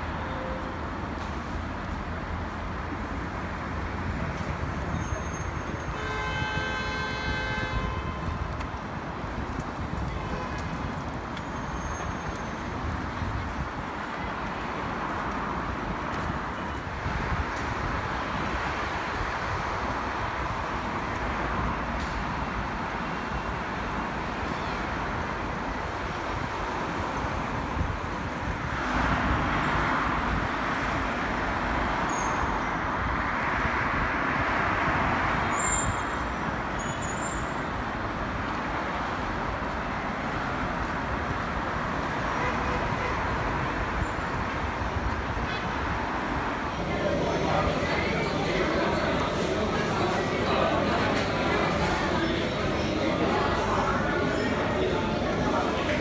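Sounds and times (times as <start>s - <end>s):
cars and buses passing: 0.0s - 56.0s.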